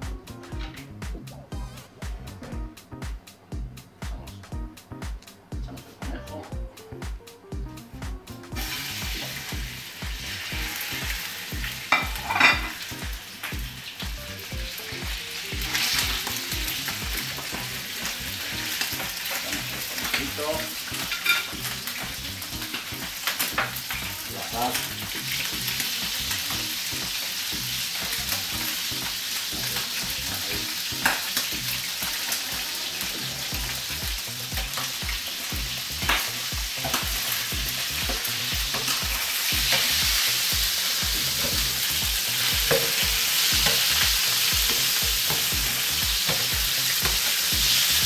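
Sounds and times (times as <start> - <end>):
meat sizzling in oil: 8.5 - 48.0.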